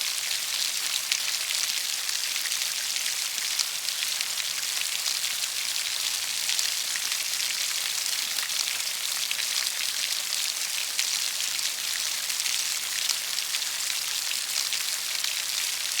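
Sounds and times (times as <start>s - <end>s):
steady rainfall: 0.0s - 16.0s.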